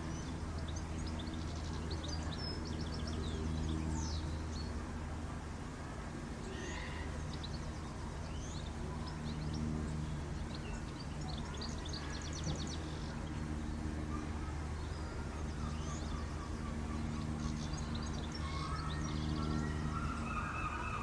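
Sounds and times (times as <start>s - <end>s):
small birds chirping: 0.0s - 4.8s, 6.4s - 21.0s
steady low hum: 0.0s - 21.0s.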